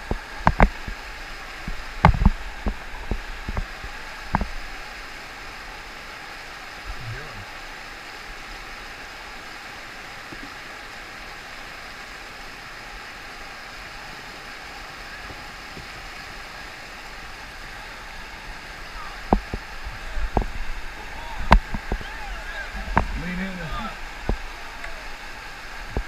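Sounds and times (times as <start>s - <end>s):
river rapids rushing: 0.0s - 26.0s.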